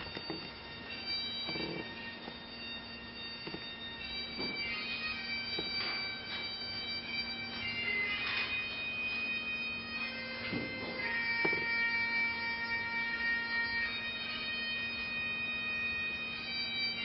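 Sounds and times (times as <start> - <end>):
bagpipe music over loudspeakers: 0.0 - 17.0.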